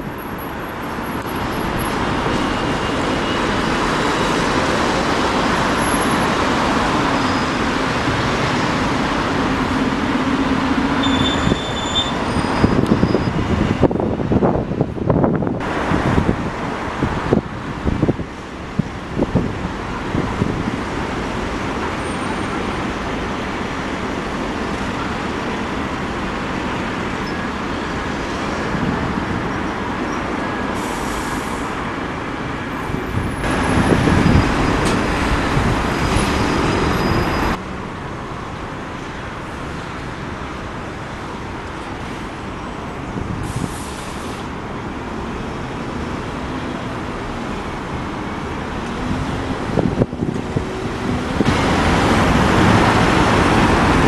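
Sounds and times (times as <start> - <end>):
bus engines running: 0.0 - 54.0
traffic noise: 0.0 - 54.0.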